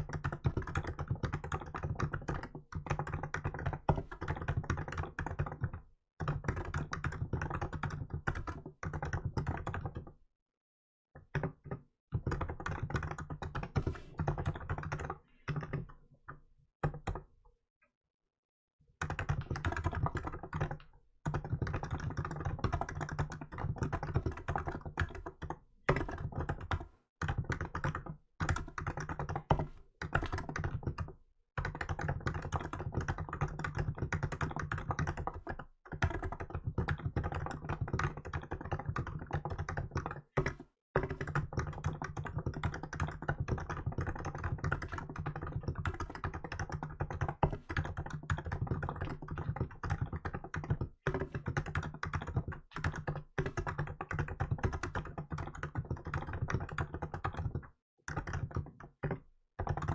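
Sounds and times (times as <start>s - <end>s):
keyboard typing: 0.0s - 10.1s, 11.2s - 17.3s, 19.0s - 59.9s.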